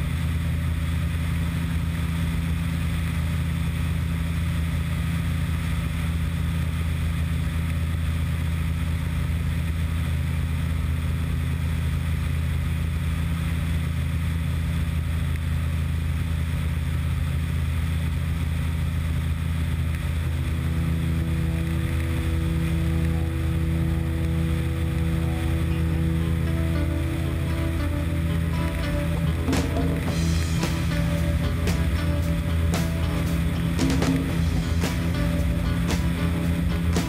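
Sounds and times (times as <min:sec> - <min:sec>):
aircraft propeller engine droning: 0:00.0 - 0:37.0.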